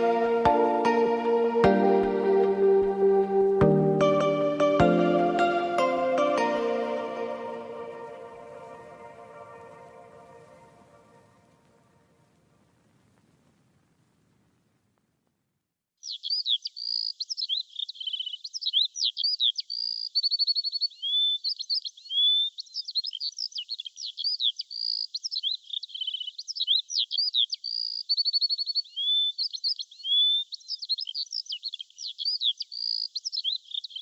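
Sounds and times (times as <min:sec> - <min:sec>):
songbird chirps and trills: 0:00.0 - 0:11.7, 0:16.0 - 0:34.0.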